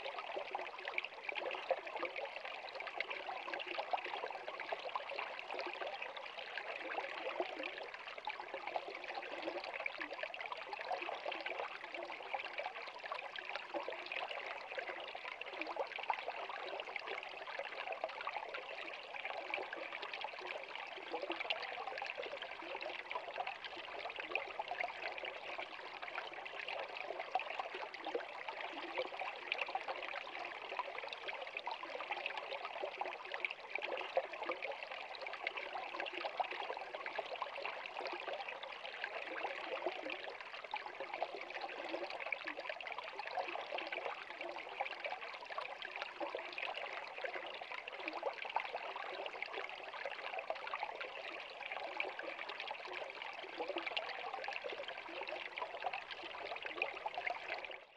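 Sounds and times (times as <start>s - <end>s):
stream trickling over rocks: 0.0s - 57.9s.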